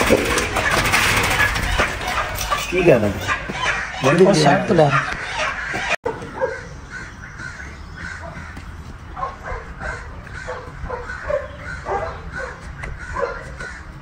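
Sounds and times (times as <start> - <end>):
crows cawing: 0.0 - 14.0.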